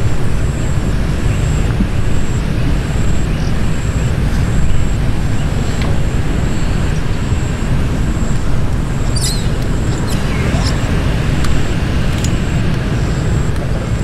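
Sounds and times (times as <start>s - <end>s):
faint high whine: 0.0s - 14.0s
low rumbling noise: 0.0s - 14.0s.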